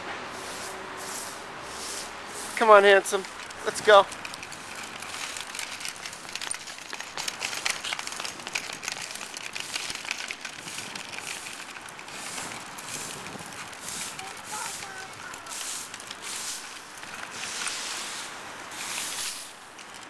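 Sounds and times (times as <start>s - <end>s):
plastic wheels rolling on bricks: 1.6s - 20.0s.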